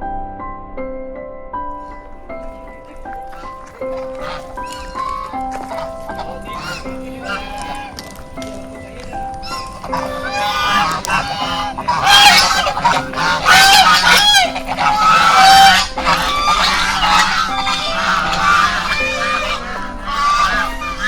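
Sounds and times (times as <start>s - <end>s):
faint background music: 0.0s - 21.0s
loud honking bird calls: 1.9s - 21.0s.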